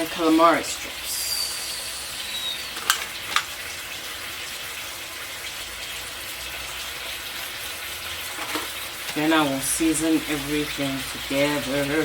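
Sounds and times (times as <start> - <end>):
seafood sizzling in a pan: 0.0 - 12.0.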